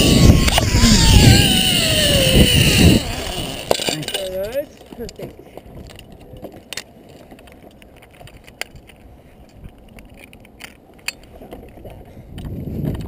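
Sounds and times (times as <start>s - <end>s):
metal carabiners clicking: 0.0s - 11.8s.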